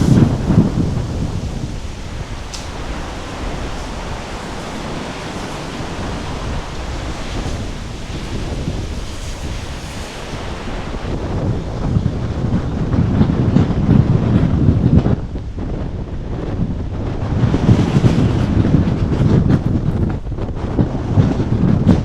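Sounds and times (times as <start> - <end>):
storm waves rushing: 0.0 - 22.0
wind buffeting microphone: 0.0 - 22.0.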